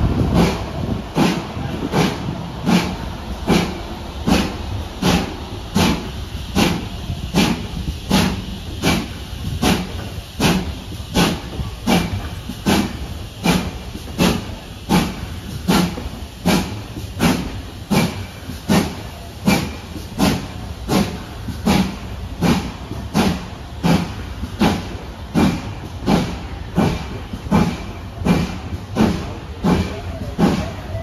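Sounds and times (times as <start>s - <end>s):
steam locomotive chuffing: 0.0s - 31.0s.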